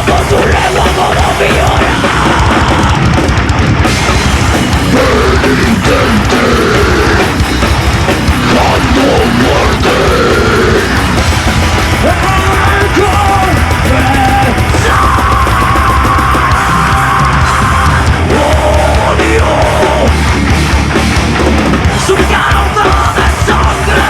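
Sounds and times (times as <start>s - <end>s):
metal band playing live: 0.0s - 24.0s.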